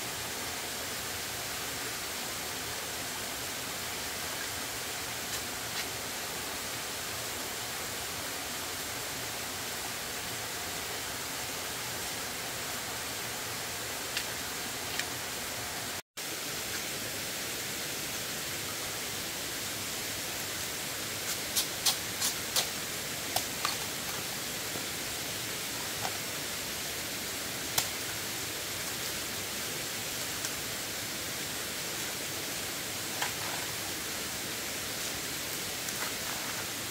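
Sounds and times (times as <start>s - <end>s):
steady rushing hiss: 0.0s - 36.9s.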